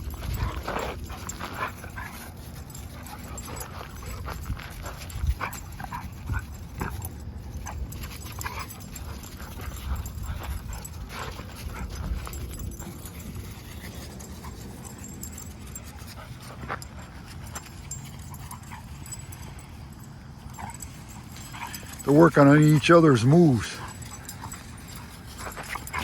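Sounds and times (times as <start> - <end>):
dogs scuffling and pawing: 0.0 - 26.0.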